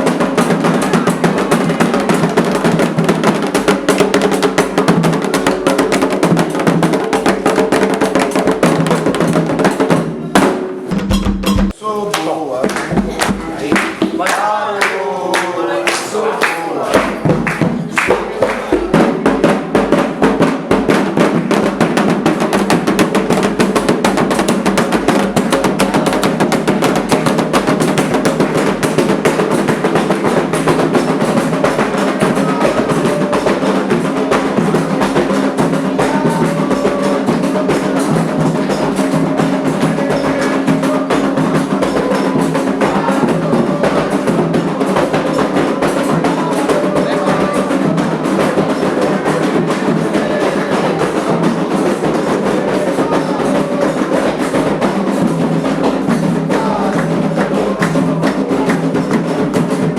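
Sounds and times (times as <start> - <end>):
fast hand drumming: 0.0 - 15.5, 16.9 - 59.9
voices singing: 11.7 - 59.9.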